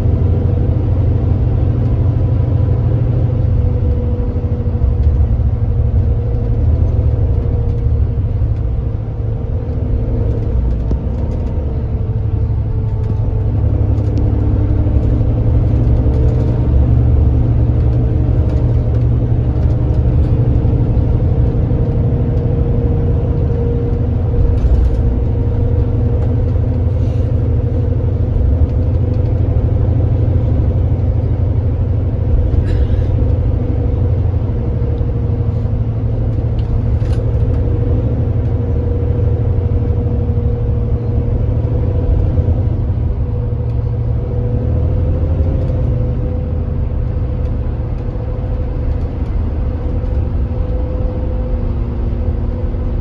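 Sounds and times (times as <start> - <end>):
bus engine running: 0.0 - 53.0
road noise: 0.0 - 53.0.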